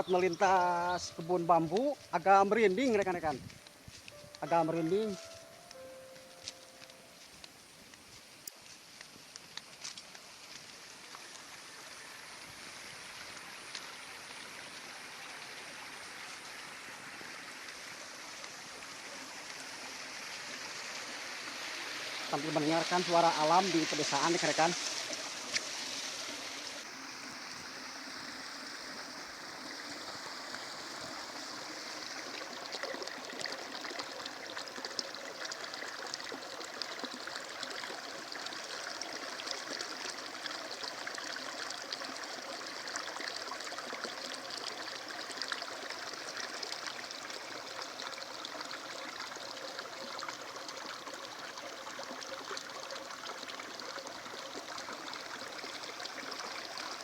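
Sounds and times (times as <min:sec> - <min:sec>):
water running in a stream: 0:00.0 - 0:57.0.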